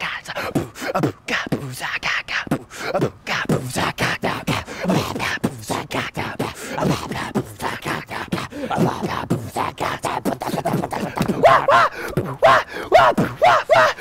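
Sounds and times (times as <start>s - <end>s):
man making wordless vocal noises: 0.0s - 14.0s.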